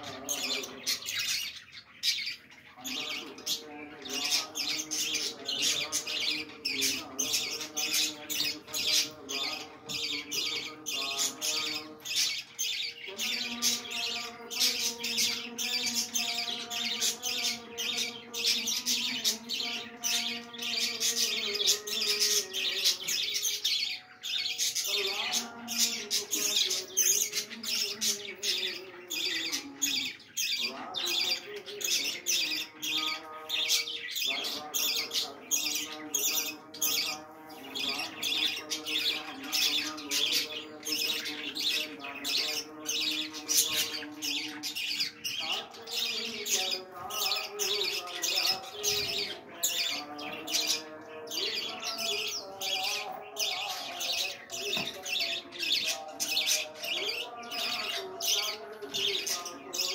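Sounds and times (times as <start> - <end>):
budgerigars chattering and squawking: 0.0 - 59.9.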